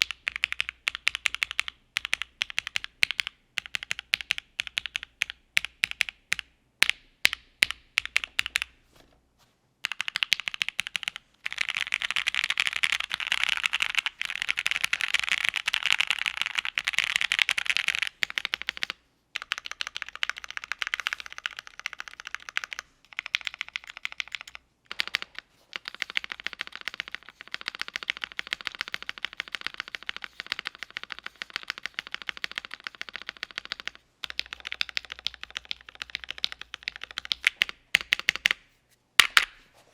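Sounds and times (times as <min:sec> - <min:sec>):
mechanical keyboard typing: 0:00.0 - 0:06.2, 0:09.8 - 0:38.5.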